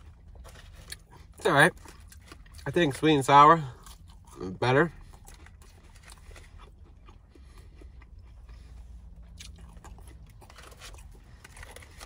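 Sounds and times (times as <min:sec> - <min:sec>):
low steady hum: 0:00.0 - 0:12.0
person chewing: 0:00.0 - 0:12.0.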